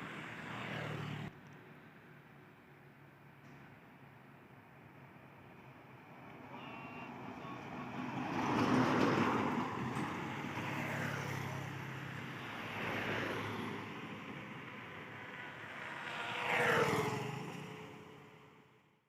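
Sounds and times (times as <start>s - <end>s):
road vehicles passing: 0.0s - 18.8s.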